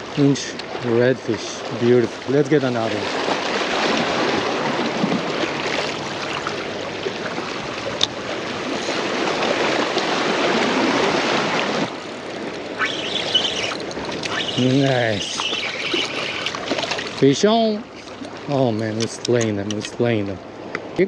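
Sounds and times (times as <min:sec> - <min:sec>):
waves splashing against rocks: 0:01.6 - 0:20.7.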